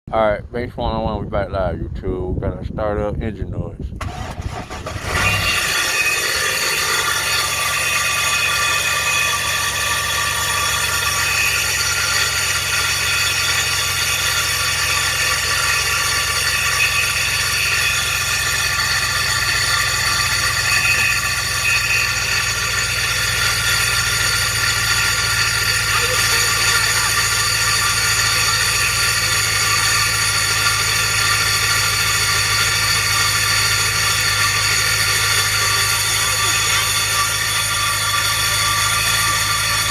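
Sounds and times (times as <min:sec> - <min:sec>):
engine running: 0:00.1 - 0:39.9
metallic grinding whine: 0:03.9 - 0:39.9.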